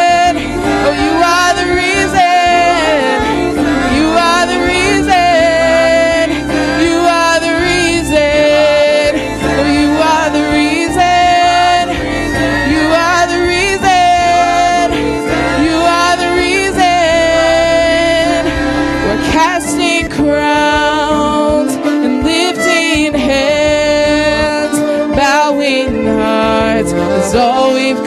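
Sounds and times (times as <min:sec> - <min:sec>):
keyboard saxophone and violin band: 0:00.0 - 0:28.0
women singing gospel: 0:00.0 - 0:28.0.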